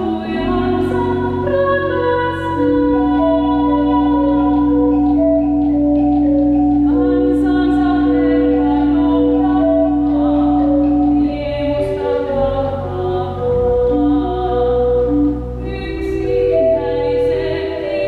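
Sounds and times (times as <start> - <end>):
woman singing: 0.0 - 18.0.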